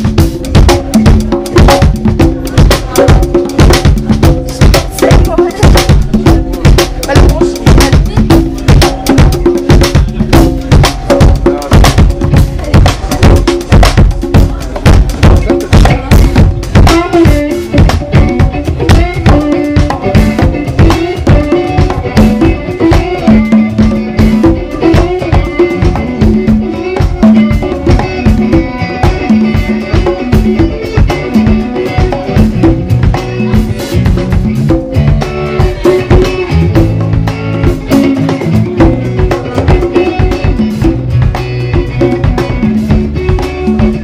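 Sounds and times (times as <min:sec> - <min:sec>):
conga struck by hand: 0:00.0 - 0:44.0
electric bass: 0:00.0 - 0:44.0
electric guitar: 0:00.0 - 0:44.0.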